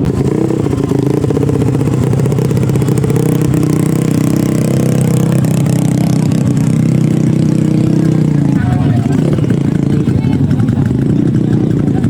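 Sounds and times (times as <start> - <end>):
motorcycle engine running loudly: 0.0 - 12.0.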